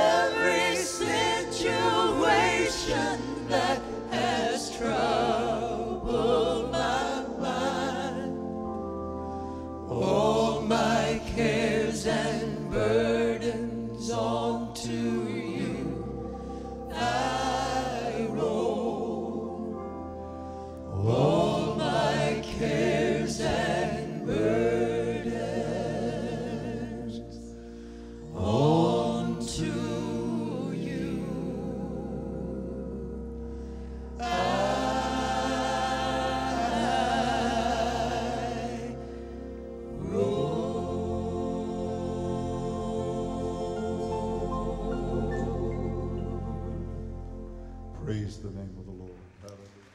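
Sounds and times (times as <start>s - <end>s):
voices singing gospel: 0.0s - 48.6s
low accompaniment: 0.0s - 49.9s.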